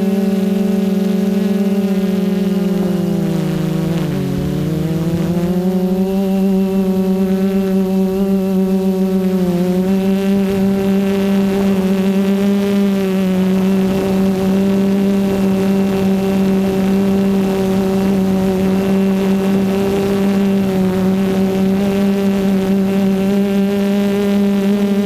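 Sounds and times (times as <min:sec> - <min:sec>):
quadcopter motors humming: 0:00.0 - 0:25.0.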